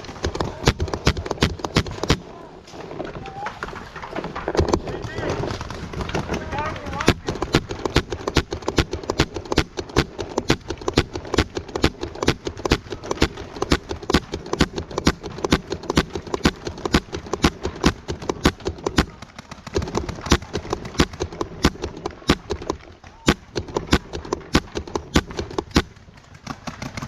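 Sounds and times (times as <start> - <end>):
paintball markers firing: 0.0 - 27.0.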